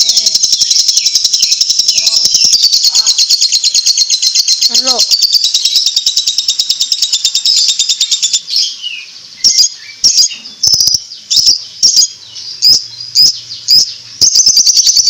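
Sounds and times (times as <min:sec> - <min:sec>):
bird chattering trill: 0:00.0 - 0:15.0
bird sharp chirps: 0:00.0 - 0:15.0.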